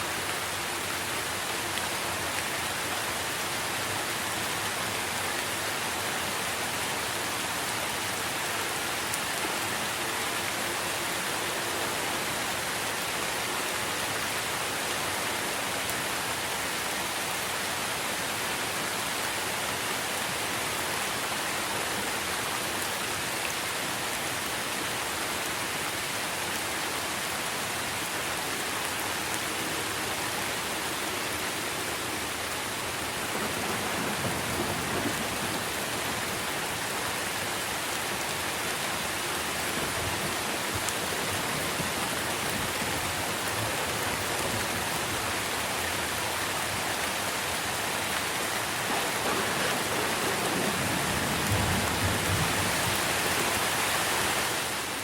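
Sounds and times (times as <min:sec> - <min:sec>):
rain on tree foliage: 0:00.0 - 0:55.0.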